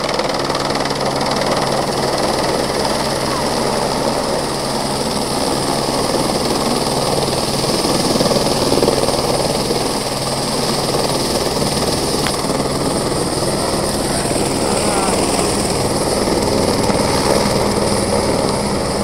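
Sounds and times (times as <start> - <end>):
helicopter rotor chopping: 0.0 - 19.0
turbine whine: 0.0 - 19.0.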